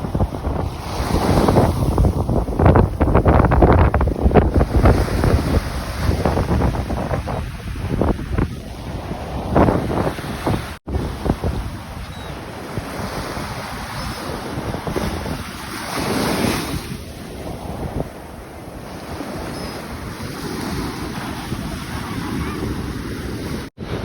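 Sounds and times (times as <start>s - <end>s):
ocean surf washing on beach: 0.0s - 24.0s
wind buffeting microphone: 0.0s - 24.0s.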